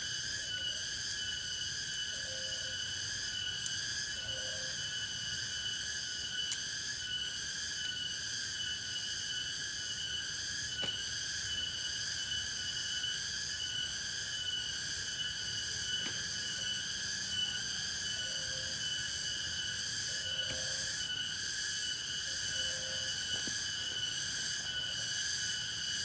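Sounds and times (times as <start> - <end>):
insects buzzing and trilling: 0.0 - 26.0.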